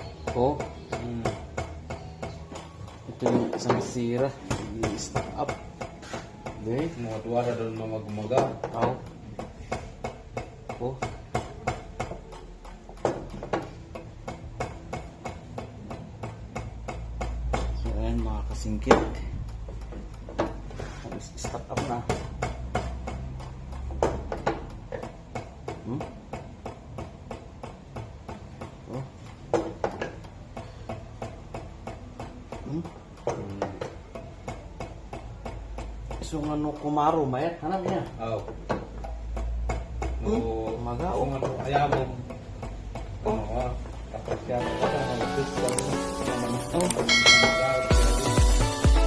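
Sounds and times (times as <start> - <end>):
injector test rig ticking: 0.0 - 48.8.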